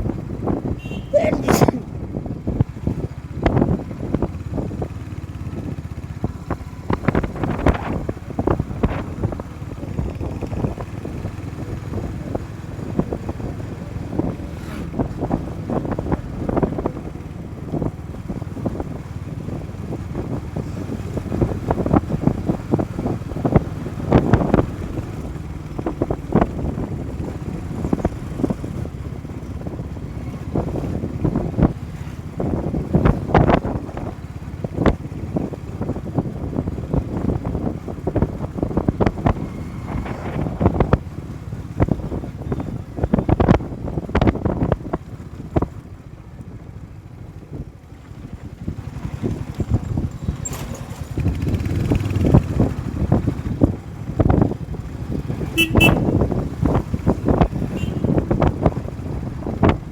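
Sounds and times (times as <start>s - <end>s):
motorcycle engine and road noise: 0.0s - 59.9s
wind buffeting microphone: 0.0s - 59.9s.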